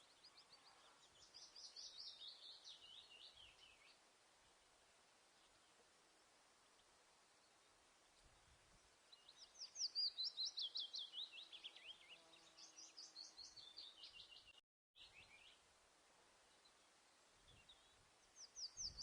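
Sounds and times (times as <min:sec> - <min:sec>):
faint background hiss: 0:00.0 - 0:19.0
songbird singing: 0:00.0 - 0:19.0.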